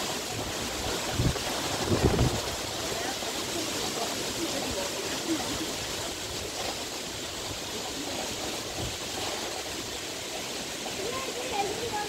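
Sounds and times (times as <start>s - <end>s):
wind rushing through palm fronds: 0.0s - 12.0s.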